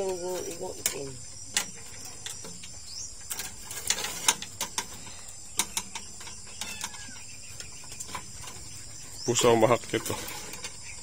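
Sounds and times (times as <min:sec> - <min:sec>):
sharp clicks and crackles: 0:00.0 - 0:08.8
crickets chirping: 0:00.0 - 0:11.0.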